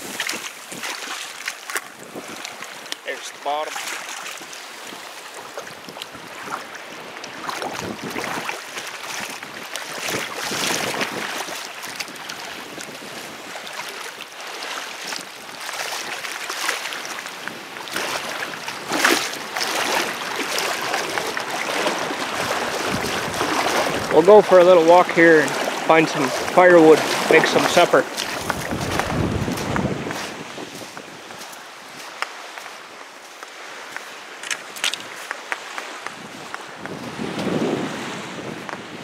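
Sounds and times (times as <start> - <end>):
water sloshing around legs: 0.0 - 36.6
small waves: 0.0 - 39.0
wind: 0.0 - 39.0.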